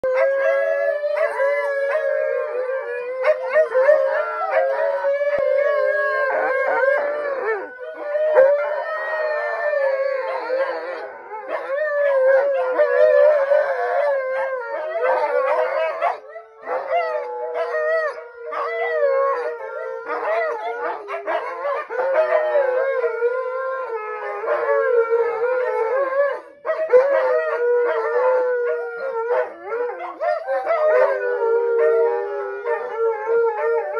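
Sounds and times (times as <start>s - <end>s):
dogs howling: 0.0s - 33.9s.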